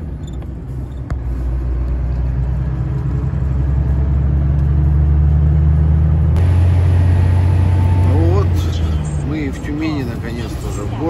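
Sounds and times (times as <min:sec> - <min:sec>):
truck diesel engine droning: 0:00.0 - 0:11.0.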